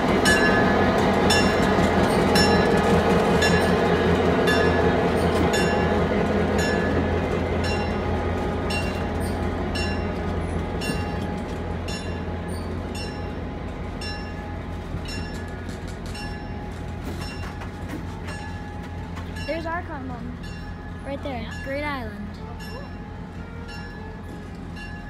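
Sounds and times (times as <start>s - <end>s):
train wheels clicking over rail joints: 0.0s - 21.0s
diesel locomotive hum: 0.0s - 25.0s.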